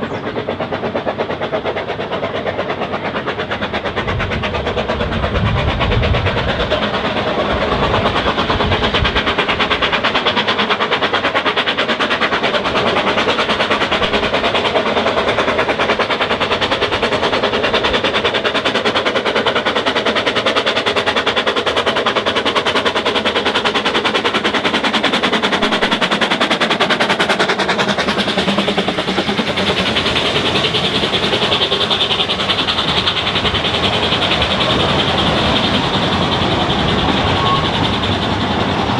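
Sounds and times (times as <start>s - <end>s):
train running at speed: 0.0s - 38.9s.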